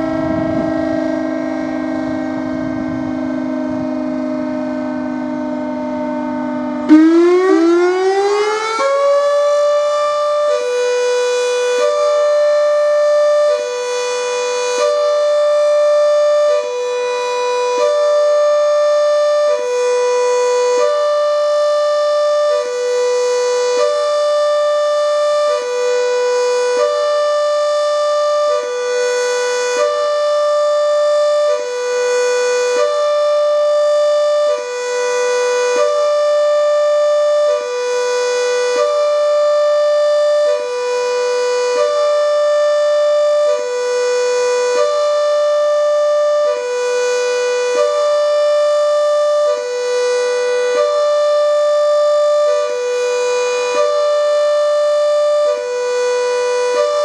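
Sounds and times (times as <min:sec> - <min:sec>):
two-tone warning siren: 0:00.0 - 0:57.0.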